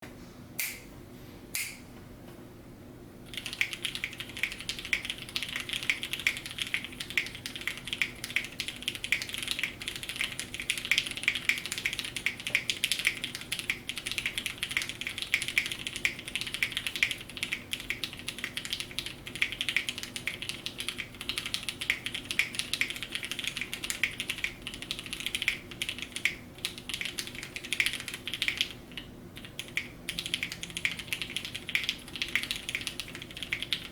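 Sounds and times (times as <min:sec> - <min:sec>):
mechanical keyboard typing: 0:03.3 - 0:33.9.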